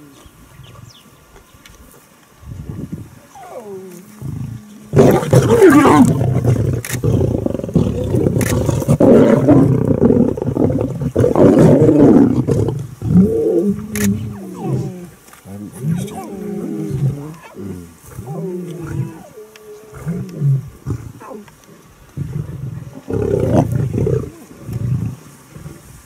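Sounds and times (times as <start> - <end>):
lions growling: 3.3 - 25.9.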